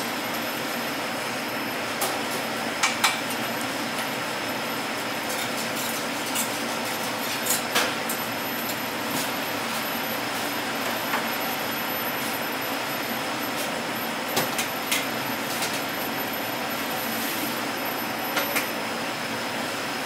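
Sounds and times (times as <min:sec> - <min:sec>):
ventilation fan running: 0:00.0 - 0:20.0.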